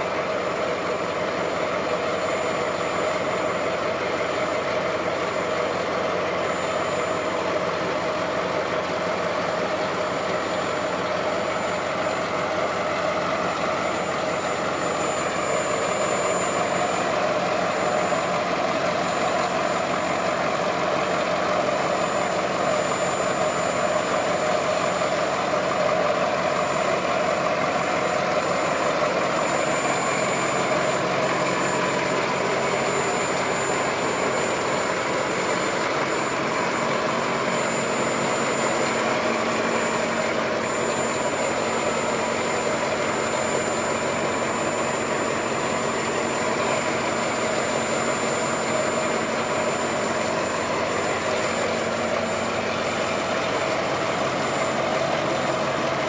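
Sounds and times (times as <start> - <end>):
small train engine running: 0.0 - 56.0.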